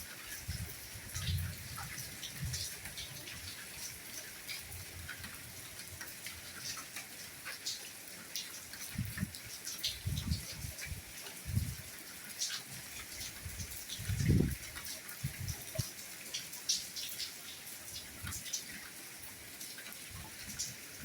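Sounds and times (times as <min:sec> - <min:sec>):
light rain pattering: 0:00.0 - 0:21.0.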